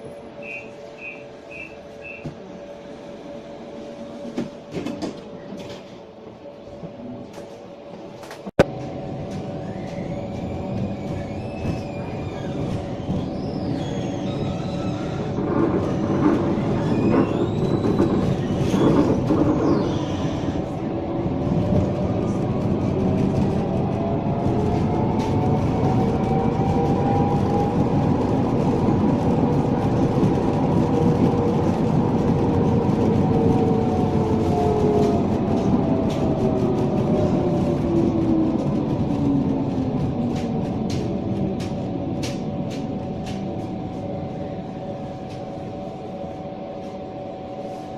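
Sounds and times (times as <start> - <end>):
tram hum: 0.0 - 47.9.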